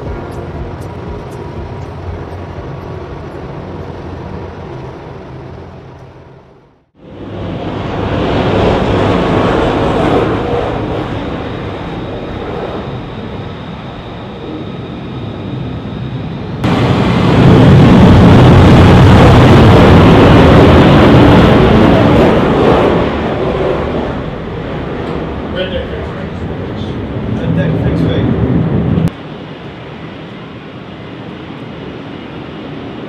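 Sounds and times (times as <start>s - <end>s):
jet taking off: 0.0s - 33.0s.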